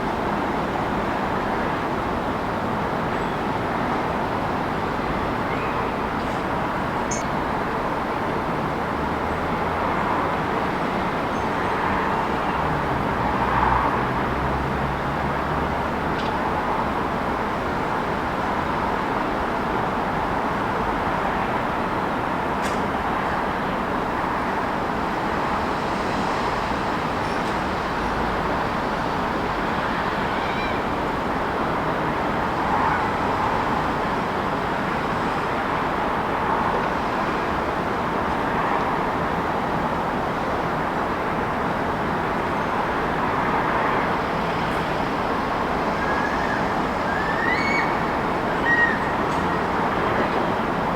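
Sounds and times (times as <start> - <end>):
street traffic passing: 0.0 - 50.9.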